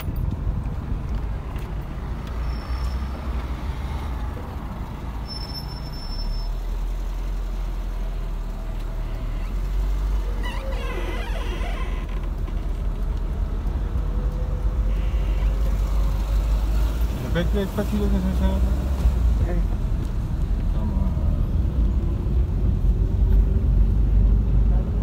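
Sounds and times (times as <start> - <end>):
vehicle engine low rumble: 0.0 - 25.0.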